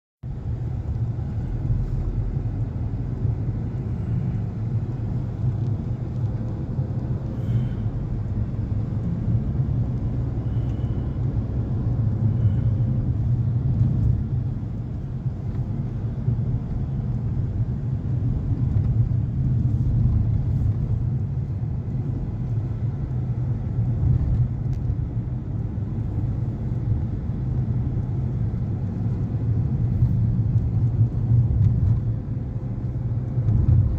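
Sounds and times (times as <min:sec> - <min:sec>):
car engine and road rumble: 0:00.2 - 0:33.9.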